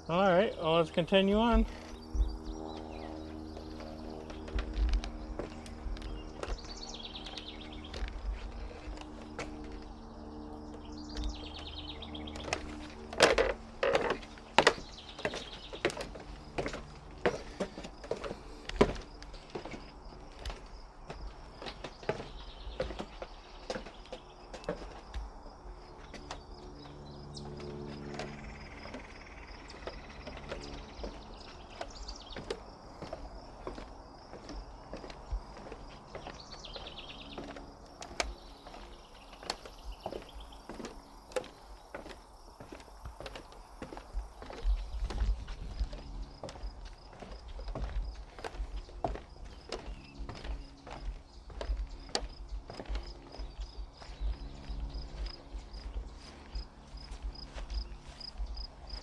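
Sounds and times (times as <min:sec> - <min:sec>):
songbird trill: 0:00.0 - 0:59.0
footsteps walking: 0:00.6 - 0:59.0.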